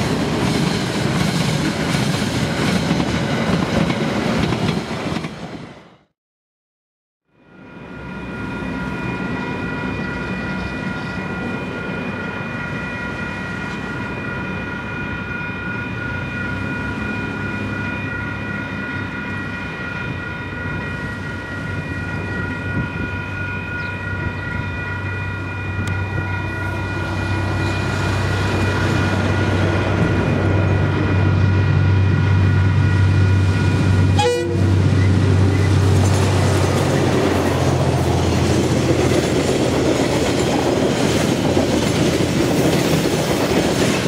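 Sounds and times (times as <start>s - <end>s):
crossing alarm bells ringing: 7.4s - 43.4s
locomotive engine rumble: 8.0s - 44.0s.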